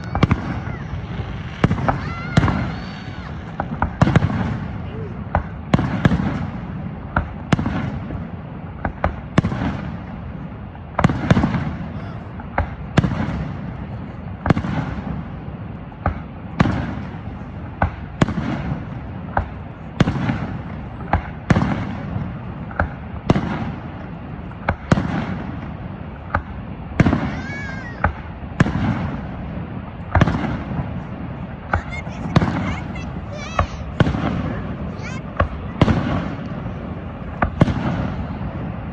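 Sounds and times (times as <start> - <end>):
fireworks bangs with rumbling echo: 0.0 - 38.9.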